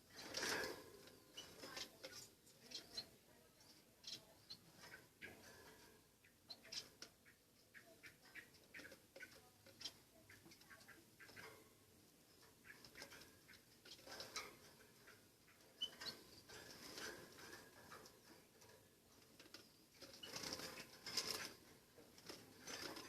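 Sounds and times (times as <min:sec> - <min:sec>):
small bird scratching and pecking: 0:00.0 - 0:23.0.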